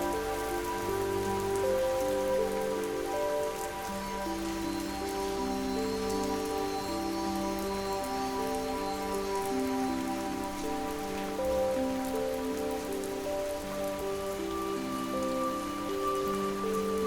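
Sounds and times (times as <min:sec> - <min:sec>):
gentle rain: 0:00.0 - 0:17.0
soft slow music: 0:00.0 - 0:17.0.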